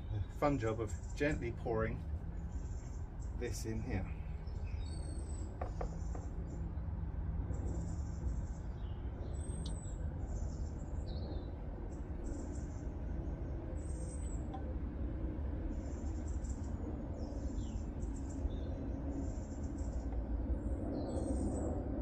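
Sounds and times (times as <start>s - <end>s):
small birds chirping: 0.0s - 14.7s, 15.6s - 21.8s
low background rumble: 0.0s - 22.0s.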